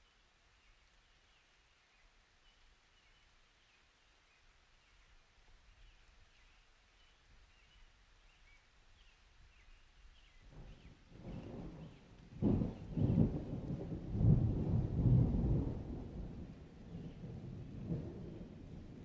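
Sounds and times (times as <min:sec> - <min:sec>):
low hiss: 0:00.0 - 0:19.0.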